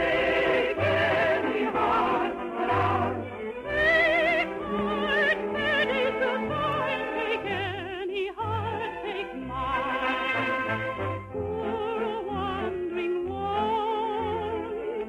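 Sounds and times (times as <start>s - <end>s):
operatic singing with vibrato: 0.0s - 15.0s
orchestral accompaniment: 0.0s - 15.0s.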